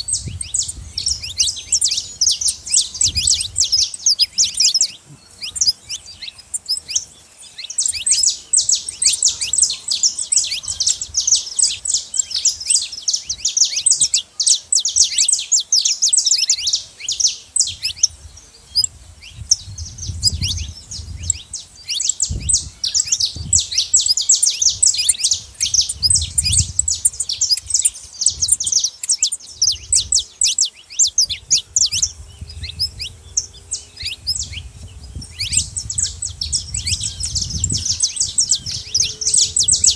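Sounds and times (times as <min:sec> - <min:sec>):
finch chirping: 0:00.0 - 0:39.9.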